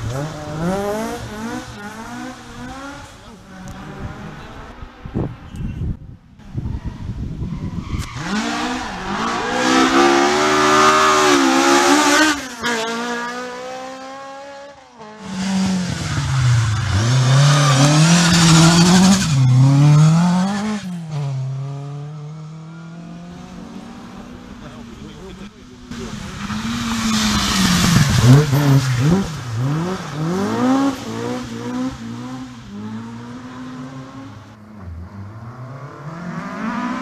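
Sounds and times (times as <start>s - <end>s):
rally cars passing at speed: 0.0s - 5.6s, 6.4s - 37.0s.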